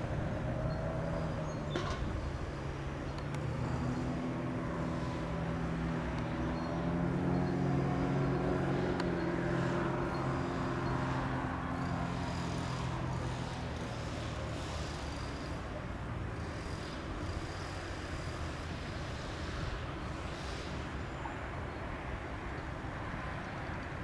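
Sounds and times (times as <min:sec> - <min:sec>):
twin propeller aircraft engines humming: 0:00.0 - 0:24.0.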